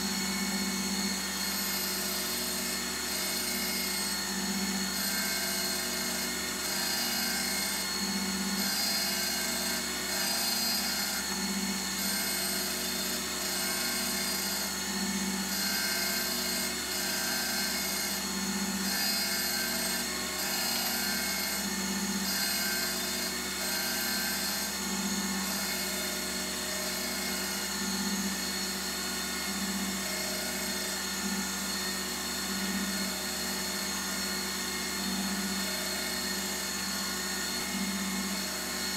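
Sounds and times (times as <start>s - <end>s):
surface grinder whine: 0.0s - 38.9s.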